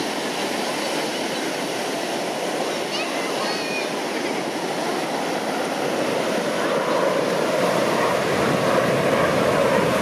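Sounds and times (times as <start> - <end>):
distant jet engines rushing: 0.0 - 10.0
surf washing onto beach: 0.0 - 10.0.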